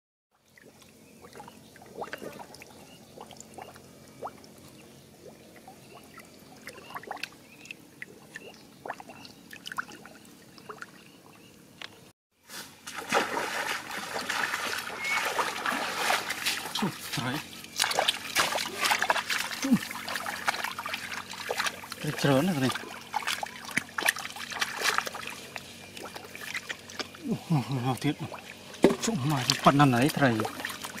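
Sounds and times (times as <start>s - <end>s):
small water splashes: 0.3s - 11.1s, 12.8s - 31.0s
shallow water trickling and lapping: 0.3s - 11.9s, 12.7s - 31.0s.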